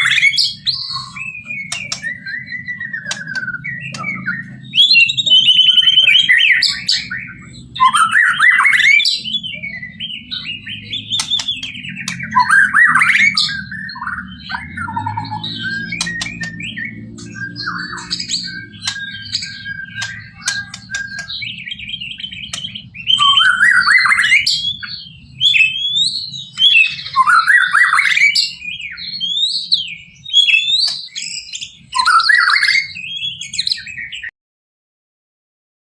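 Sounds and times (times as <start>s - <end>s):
bird singing whistled phrases: 0.0s - 34.3s.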